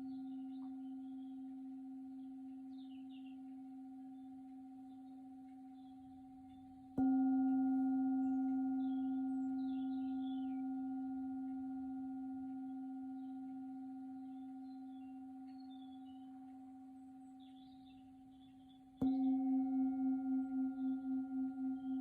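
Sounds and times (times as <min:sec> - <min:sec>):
singing bowl ringing: 0:00.0 - 0:22.0.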